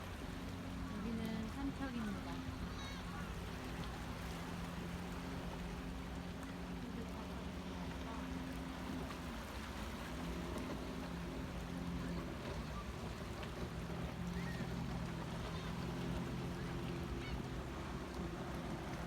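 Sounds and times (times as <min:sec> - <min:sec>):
constant rushing noise: 0:00.0 - 0:19.0.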